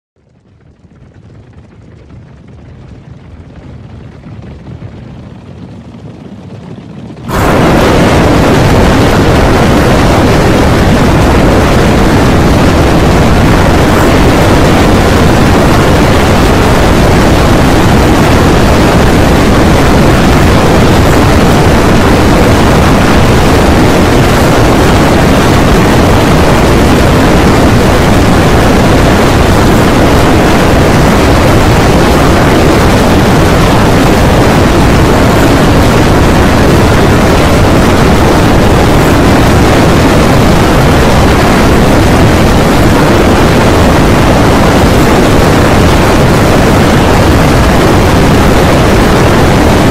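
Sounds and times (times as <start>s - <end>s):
distorted animal stampede rumble: 0.2s - 49.9s.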